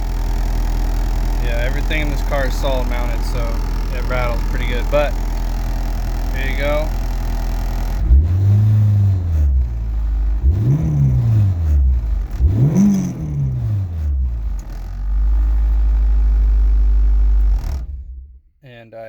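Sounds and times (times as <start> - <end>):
car engine revving and idling: 0.0 - 18.5.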